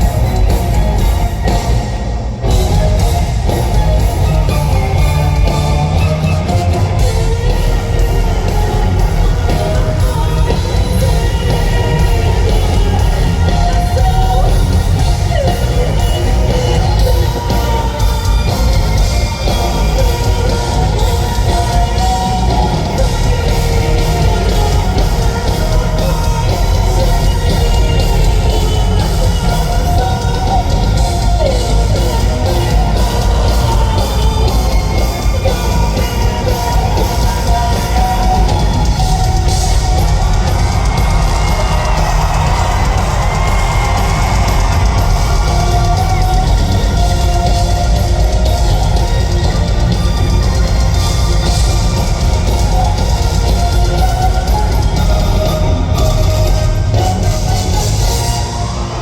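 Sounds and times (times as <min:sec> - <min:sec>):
drums: 0:00.0 - 0:59.0
electric guitar: 0:00.0 - 0:59.0
live heavy rock band: 0:00.0 - 0:59.0
person singing: 0:00.0 - 0:59.0.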